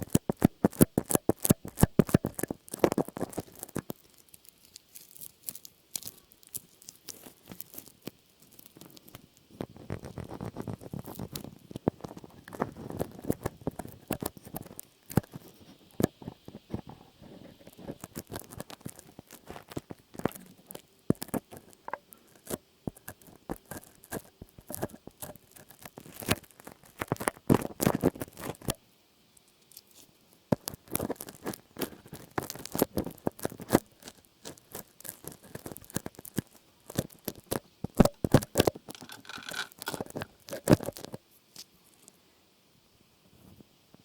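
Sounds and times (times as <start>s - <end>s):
crackling and tapping clicks: 0.0s - 28.8s, 29.4s - 42.1s.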